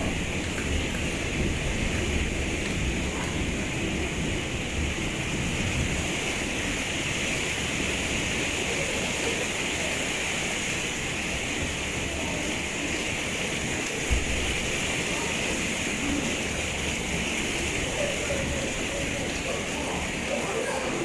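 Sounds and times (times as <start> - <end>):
heavy rain hiss: 0.0 - 21.0.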